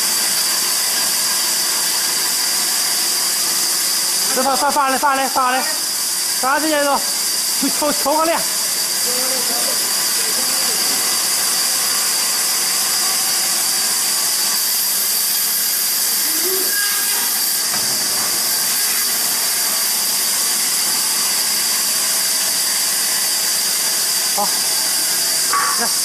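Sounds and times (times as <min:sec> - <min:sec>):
band saw cutting: 0:00.0 - 0:26.0.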